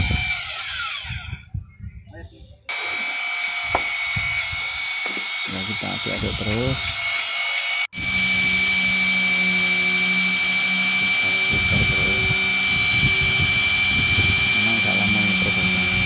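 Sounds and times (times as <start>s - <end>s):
electric drill mixer whining: 0.0s - 1.4s, 2.7s - 16.0s.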